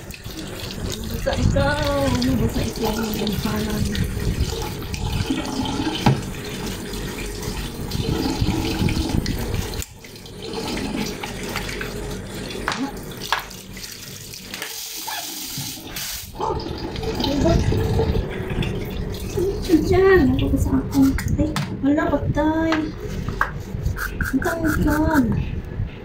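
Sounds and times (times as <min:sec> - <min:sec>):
water running and splashing: 0:00.0 - 0:21.3.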